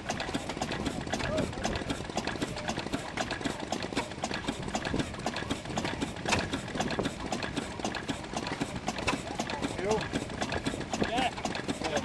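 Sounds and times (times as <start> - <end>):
stationary engine running: 0.0 - 12.0.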